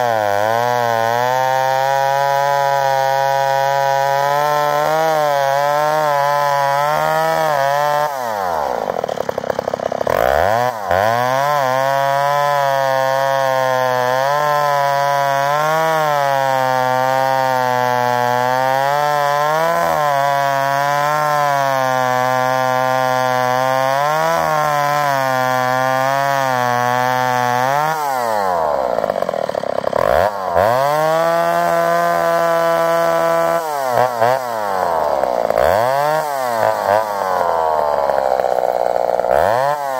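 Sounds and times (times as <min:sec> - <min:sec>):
chainsaw cutting wood at high revs: 0:00.0 - 0:39.9.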